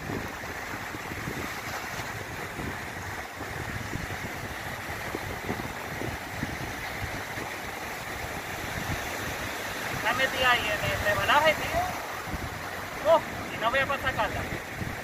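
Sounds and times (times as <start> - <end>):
small waves breaking on beach: 0.0 - 15.0
wind rumbling on microphone: 0.0 - 15.0.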